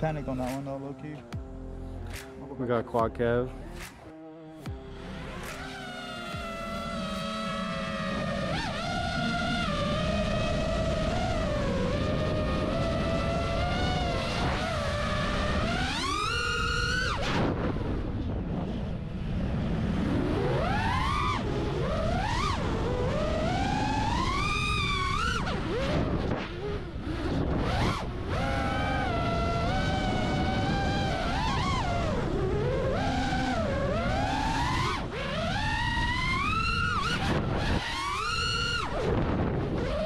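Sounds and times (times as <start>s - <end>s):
quadcopter motors buzzing whine: 0.0s - 40.0s
wind rush on microphone: 5.5s - 40.0s.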